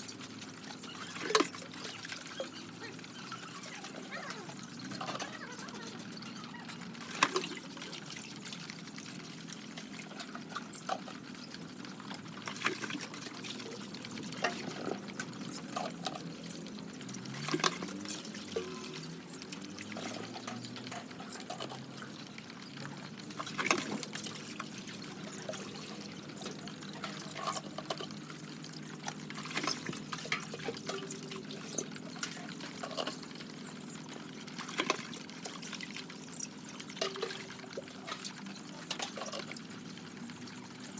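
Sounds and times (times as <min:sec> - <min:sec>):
liquid pouring and trickling: 0:00.0 - 0:40.9.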